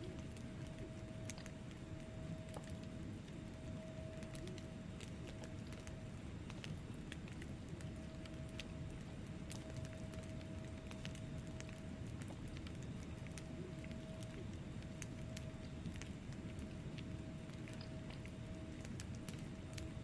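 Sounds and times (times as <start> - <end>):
faint steady tone: 0.0 - 20.0
logs crackling and popping: 0.0 - 20.0
low rumble of flames: 0.0 - 20.0.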